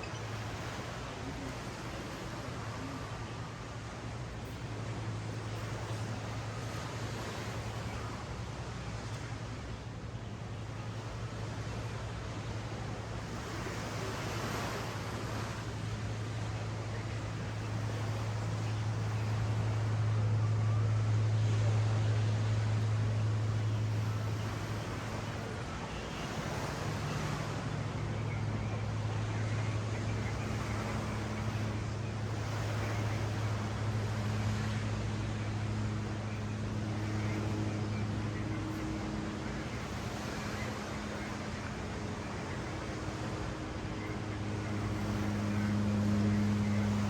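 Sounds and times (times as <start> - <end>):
low mechanical hum: 0.0 - 47.0
ocean surf washing on beach: 0.0 - 47.0.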